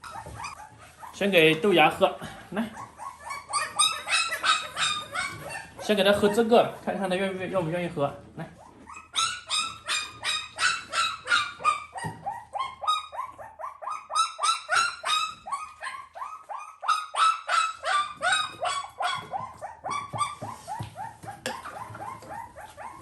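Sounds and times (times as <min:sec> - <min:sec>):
puppy yelping: 0:00.0 - 0:06.9, 0:08.5 - 0:23.0.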